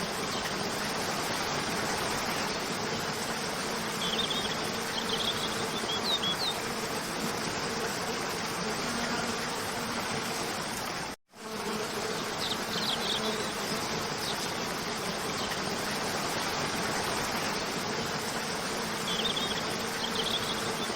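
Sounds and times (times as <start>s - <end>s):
stream water running: 0.0s - 20.9s.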